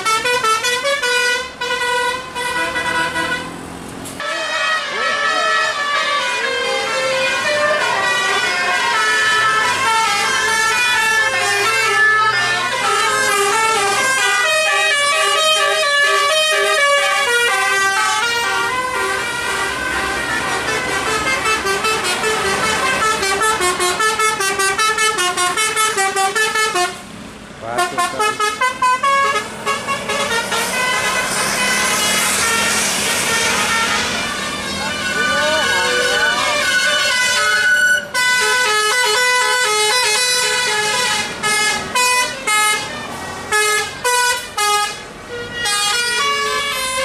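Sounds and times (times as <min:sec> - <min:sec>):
multi-tone bus horn melody: 0:00.0 - 0:47.0.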